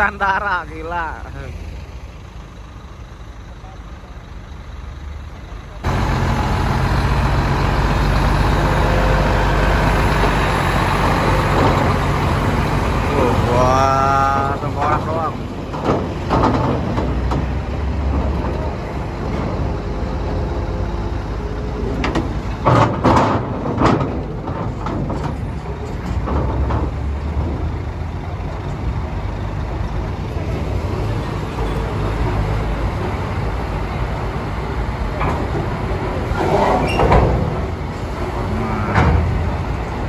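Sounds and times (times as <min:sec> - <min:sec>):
diesel trucks rumbling: 0:00.0 - 0:40.0.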